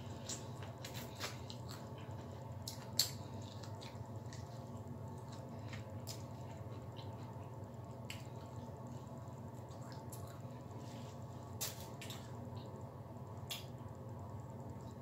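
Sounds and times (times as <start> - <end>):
person chewing with wet smacks: 0.0 - 12.7.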